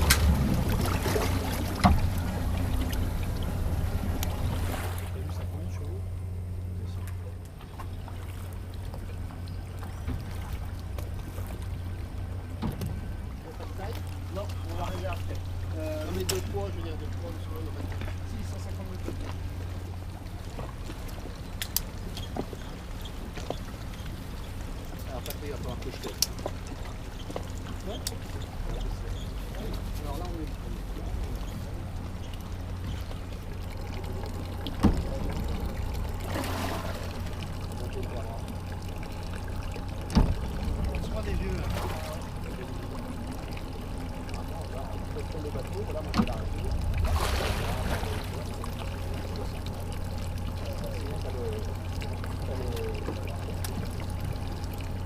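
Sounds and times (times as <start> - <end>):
motorboat engine droning: 0.0 - 55.0
water splashing against hull: 0.0 - 55.0.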